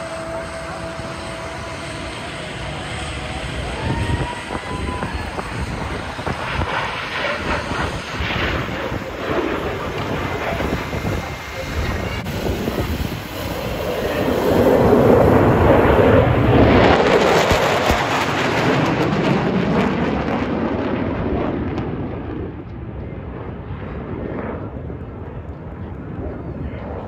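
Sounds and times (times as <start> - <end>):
airplane flying past: 0.0 - 27.0.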